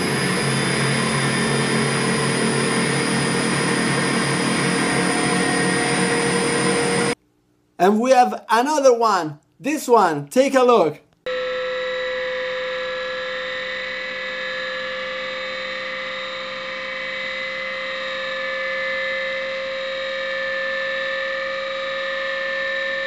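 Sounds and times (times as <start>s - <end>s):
electric motor humming and whining: 0.0s - 7.2s, 11.3s - 23.0s.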